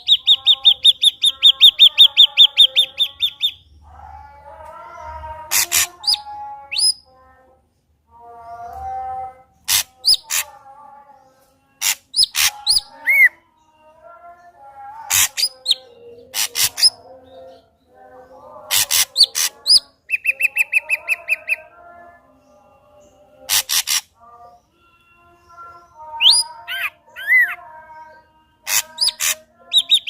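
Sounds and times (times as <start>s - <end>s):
bird singing varied song: 0.0s - 7.5s, 8.2s - 30.0s.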